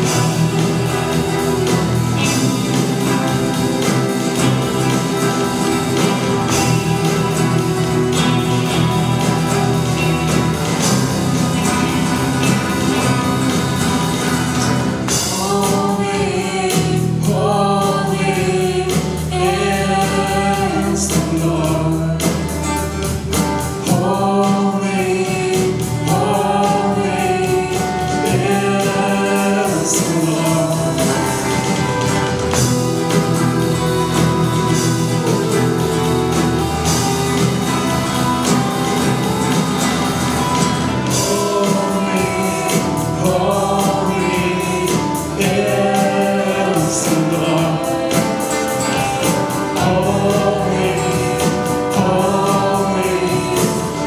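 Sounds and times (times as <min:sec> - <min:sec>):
band accompaniment: 0:00.0 - 0:54.0
group singing: 0:00.0 - 0:54.0.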